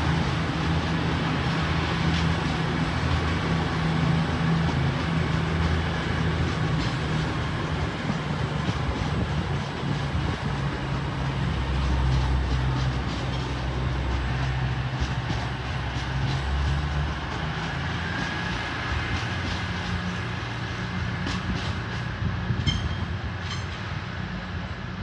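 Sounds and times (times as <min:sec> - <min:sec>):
train wheels clicking over points: 0:00.0 - 0:24.1
diesel train engines droning: 0:00.0 - 0:25.0.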